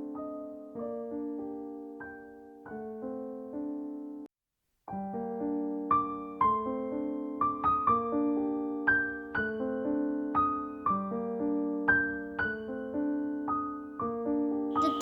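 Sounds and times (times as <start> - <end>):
soft piano music: 0.0 - 4.3, 5.0 - 15.0.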